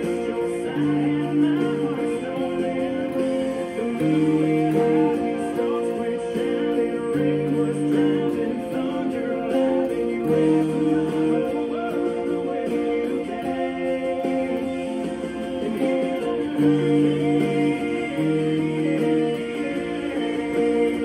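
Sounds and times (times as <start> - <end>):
country band recording: 0.0 - 21.0
electric guitar playing chords: 0.0 - 21.0
man singing: 0.0 - 21.0.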